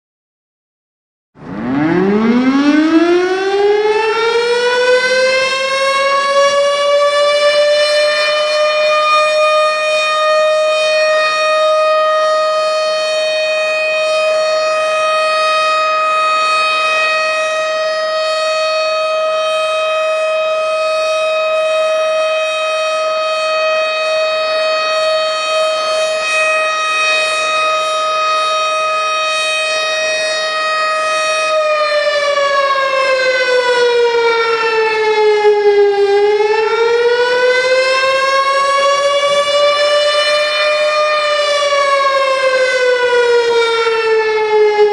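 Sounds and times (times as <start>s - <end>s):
tornado warning siren: 1.4s - 44.9s.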